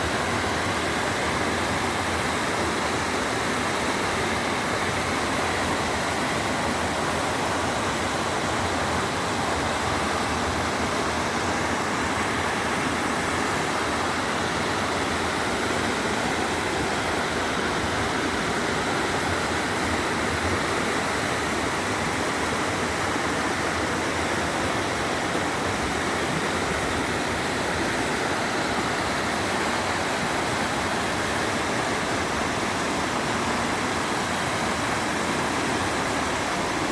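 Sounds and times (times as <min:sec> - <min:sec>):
water rushing: 0:00.0 - 0:36.9.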